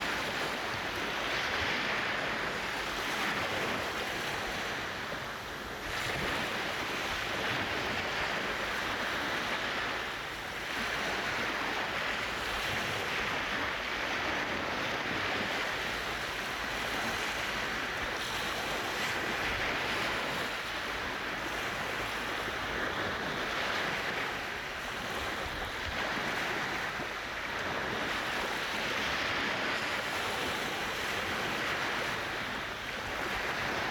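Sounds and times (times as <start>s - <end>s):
waves washing onto sand: 0.0s - 33.9s.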